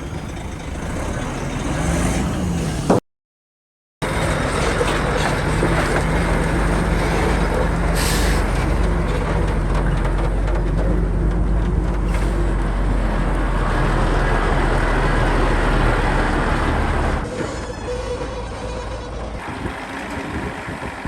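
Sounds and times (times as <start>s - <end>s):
heavy diesel engine running: 0.0s - 2.8s, 4.0s - 21.0s.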